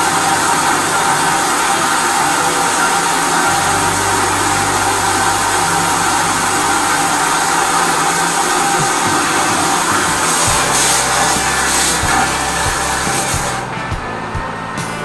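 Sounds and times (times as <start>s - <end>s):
water jet rushing hiss: 0.0s - 13.7s
low machine hum: 0.0s - 15.0s.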